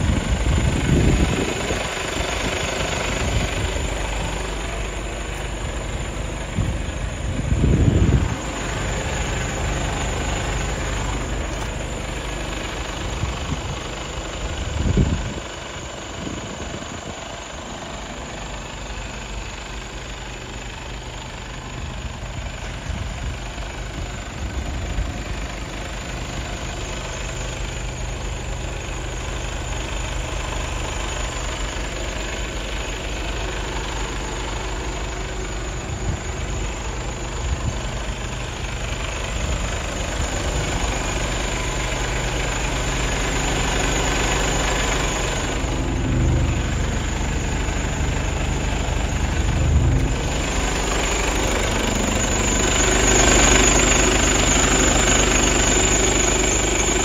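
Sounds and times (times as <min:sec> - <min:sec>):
diesel truck engine idling: 0:00.0 - 0:57.0
low engine rumbles: 0:00.0 - 0:57.0.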